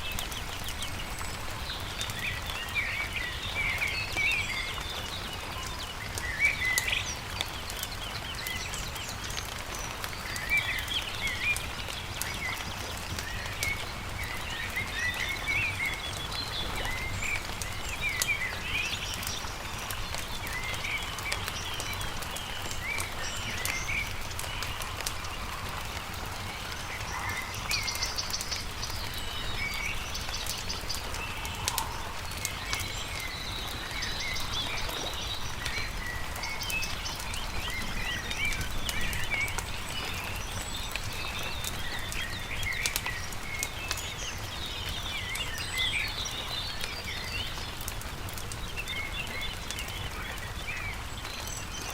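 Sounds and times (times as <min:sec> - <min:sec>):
campfire crackling and popping: 0:00.0 - 0:51.9
small birds chirping and trilling: 0:00.0 - 0:51.9.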